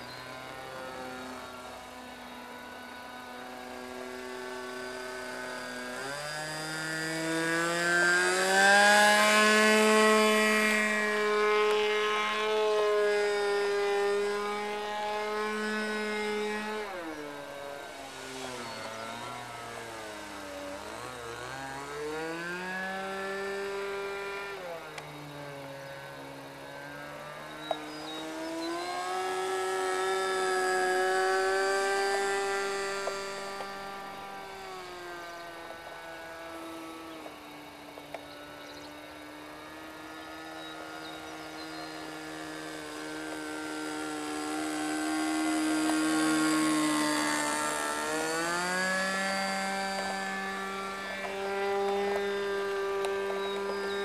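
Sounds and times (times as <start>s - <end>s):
model airplane engine in flight: 0.0s - 54.0s.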